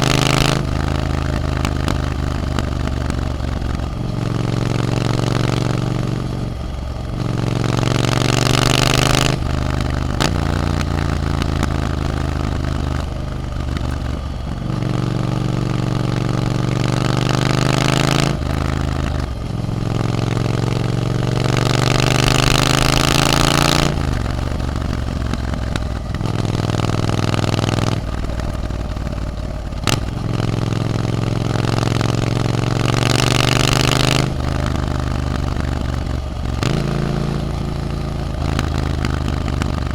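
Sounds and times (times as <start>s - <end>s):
motorcycle engine pulling through gears: 0.0s - 39.9s.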